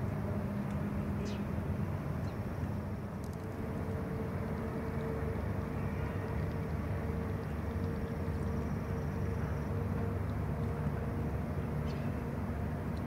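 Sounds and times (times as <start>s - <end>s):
faint continuous hum: 0.0s - 13.0s
low outdoor rumble: 0.0s - 13.0s.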